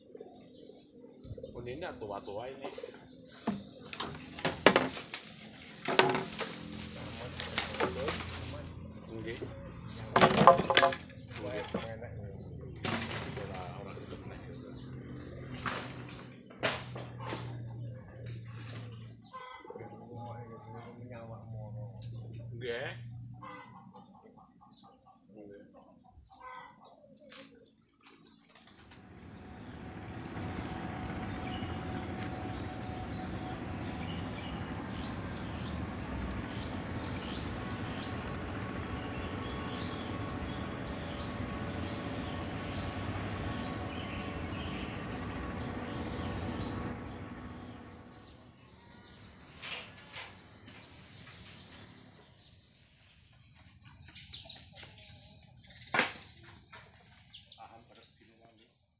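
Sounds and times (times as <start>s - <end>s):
insect chorus drone: 0.0s - 26.3s, 28.6s - 58.9s.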